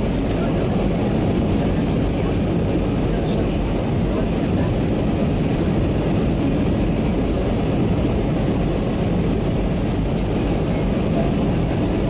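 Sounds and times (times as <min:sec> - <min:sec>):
jet engines and airflow rushing: 0:00.0 - 0:12.0.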